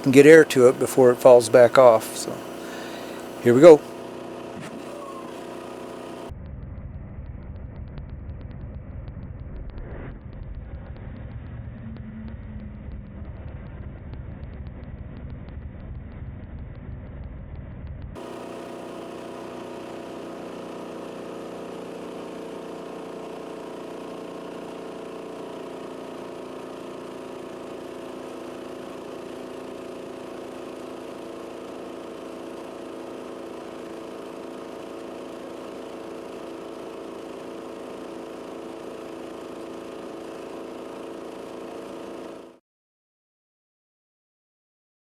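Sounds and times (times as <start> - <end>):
engine idling: 0.0 - 42.6.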